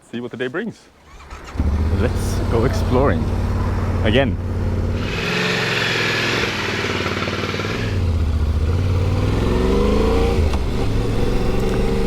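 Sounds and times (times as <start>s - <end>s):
motorcycle engine accelerating: 1.1s - 12.0s.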